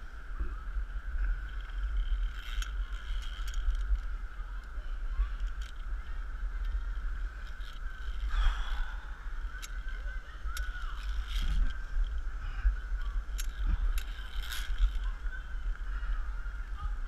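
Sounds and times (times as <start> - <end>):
wind rumble: 0.0 - 17.0
carabiners clicking on steel cable: 0.6 - 15.9.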